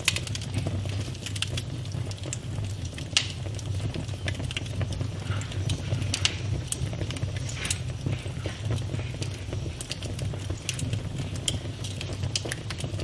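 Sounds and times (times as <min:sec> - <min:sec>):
fire flames roaring: 0:00.0 - 0:13.0
wood crackling and popping: 0:00.0 - 0:13.0.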